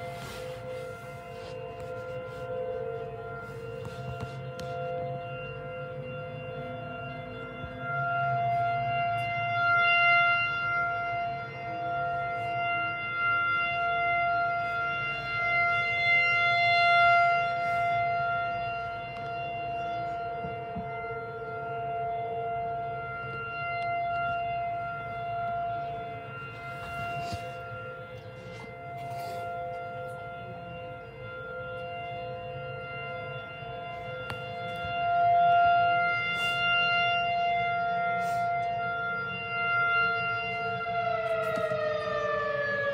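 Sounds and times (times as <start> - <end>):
tornado warning sirens: 0.0 - 42.9.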